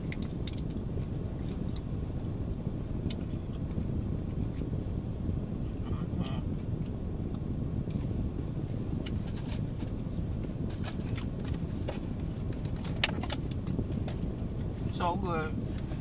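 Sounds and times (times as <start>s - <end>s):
car cabin rumble: 0.0s - 16.0s.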